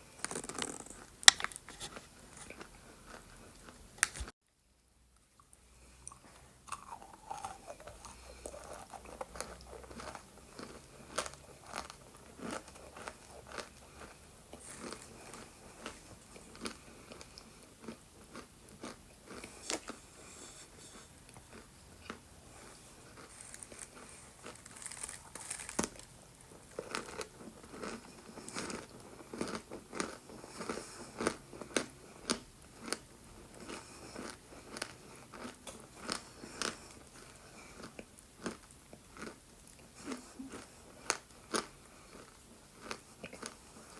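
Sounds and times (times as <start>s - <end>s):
crunchy chewing: 0.2s - 4.3s, 5.4s - 43.9s.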